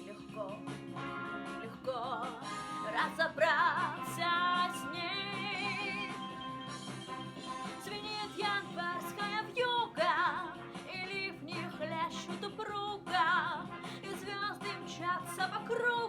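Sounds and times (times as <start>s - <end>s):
instrumental backing track: 0.0s - 16.0s.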